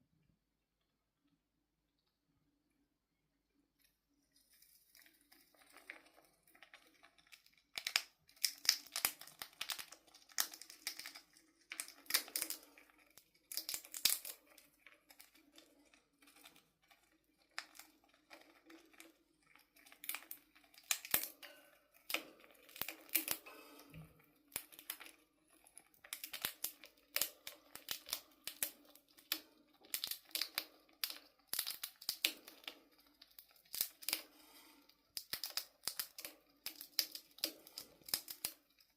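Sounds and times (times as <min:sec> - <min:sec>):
chipmunk cracking peanut shells: 0:04.9 - 0:21.4, 0:22.0 - 0:38.9.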